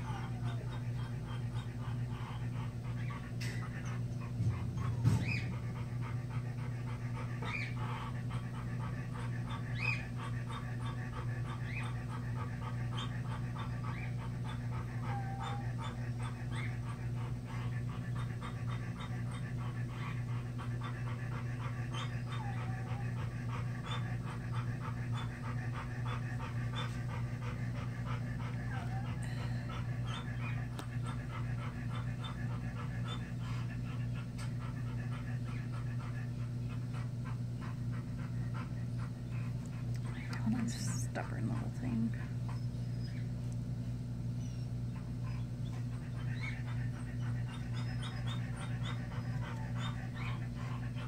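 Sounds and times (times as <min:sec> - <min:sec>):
animal whimpering cries: 0:00.0 - 0:39.2, 0:44.2 - 0:51.0
animal breathing fast: 0:00.0 - 0:42.6, 0:44.8 - 0:51.0
steady low hum: 0:00.0 - 0:51.0.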